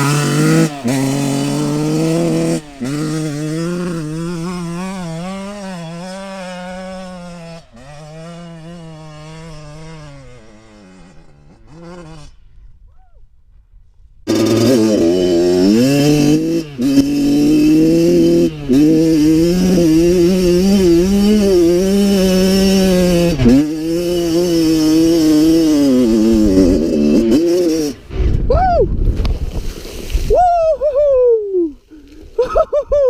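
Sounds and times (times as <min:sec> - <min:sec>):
rough rushing noise: 0:00.0 - 0:12.6, 0:14.3 - 0:30.6
dirt bike engine revving: 0:00.0 - 0:12.7, 0:14.3 - 0:28.5.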